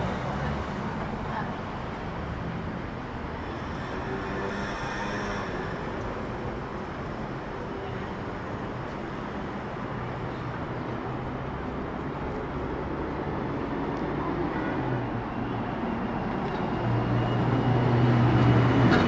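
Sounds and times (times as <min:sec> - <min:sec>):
road noise: 0:00.0 - 0:19.0
vehicle engines rumbling: 0:00.0 - 0:19.0.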